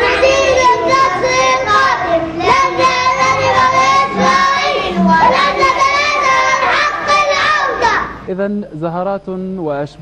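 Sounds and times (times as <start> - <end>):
boys singing in unison: 0.0 - 8.2.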